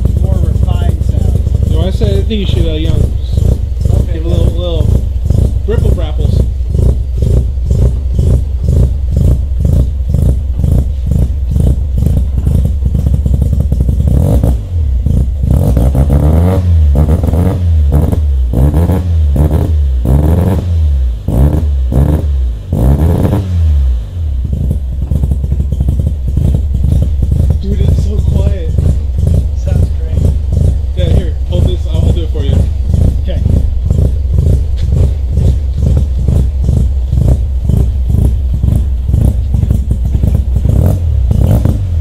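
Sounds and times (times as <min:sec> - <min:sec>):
rotary engine idling and revving: 0:00.0 - 0:42.0.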